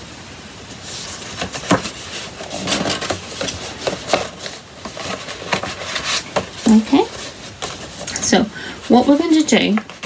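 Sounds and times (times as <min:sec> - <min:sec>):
card paper rustling and crinkling: 0:00.7 - 0:10.0.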